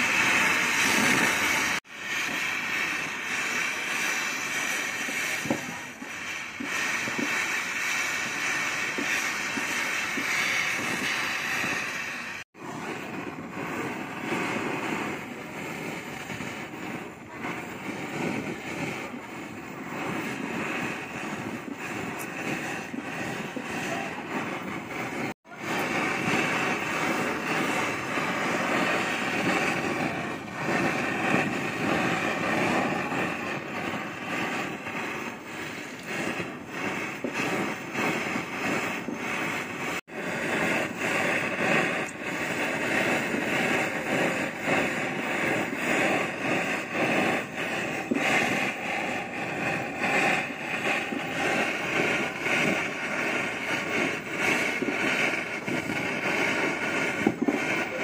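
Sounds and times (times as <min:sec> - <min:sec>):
gas torch flame roaring: 0:00.0 - 0:58.0.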